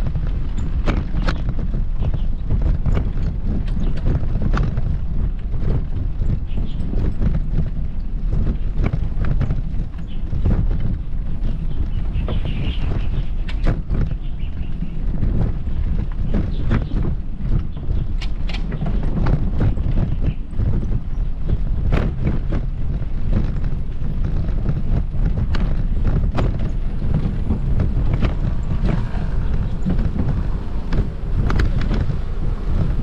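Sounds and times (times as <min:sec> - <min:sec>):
footsteps on paved path: 0:00.0 - 0:33.0.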